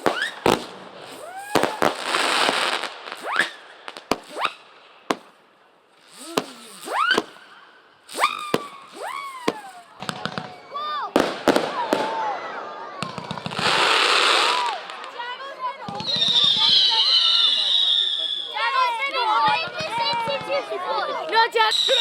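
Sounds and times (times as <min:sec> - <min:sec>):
fireworks bangs and pops: 0:00.0 - 0:18.4, 0:19.0 - 0:22.0
fireworks crackling: 0:00.0 - 0:22.0
fireworks whistling: 0:00.0 - 0:22.0.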